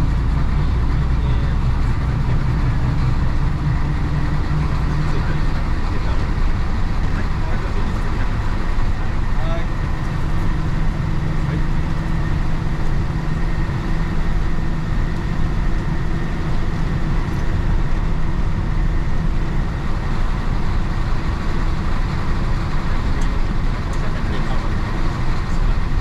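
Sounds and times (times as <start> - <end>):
diesel bus engine running: 0.0 - 26.0
road noise: 0.0 - 26.0.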